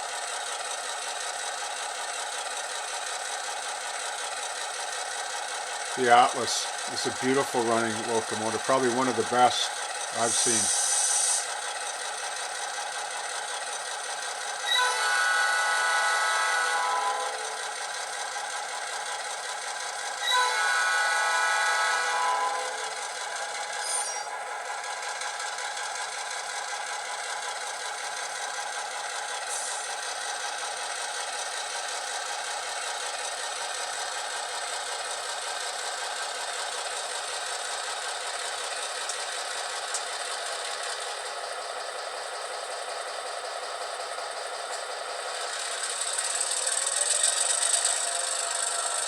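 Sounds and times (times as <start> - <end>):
diesel engine sound from small speaker: 0.0 - 49.0.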